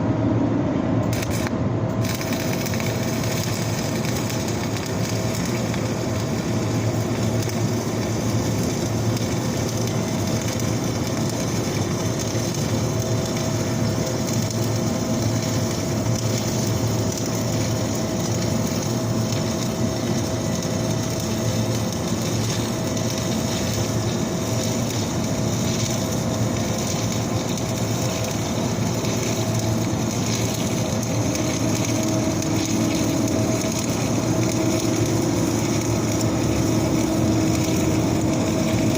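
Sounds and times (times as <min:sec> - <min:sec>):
steady low hum: 0:00.0 - 0:38.9
welding arc crackling: 0:01.0 - 0:38.9.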